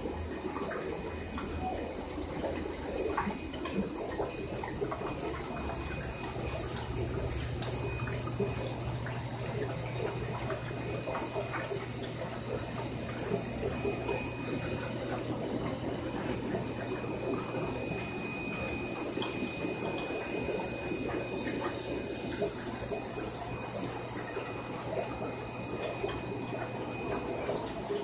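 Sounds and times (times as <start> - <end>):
faint high whine: 0.0 - 28.0
low pump hum: 0.0 - 28.0
trickling water: 0.0 - 28.0
water bubbling: 0.0 - 28.0.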